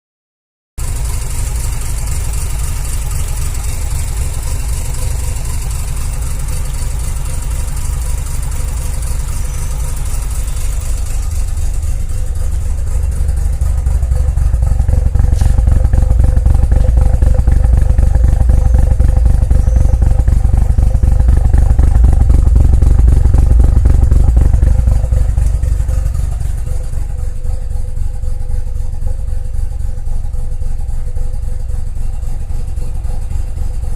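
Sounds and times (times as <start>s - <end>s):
rotary engine idling roughly: 0.8s - 33.9s.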